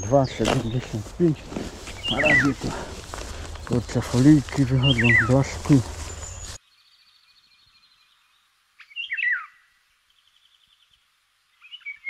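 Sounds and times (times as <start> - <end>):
small songbirds singing: 0.0 - 12.0.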